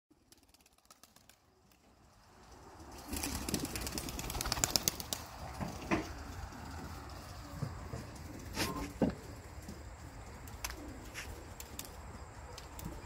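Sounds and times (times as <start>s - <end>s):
pigeon wings flapping: 0.1s - 13.0s.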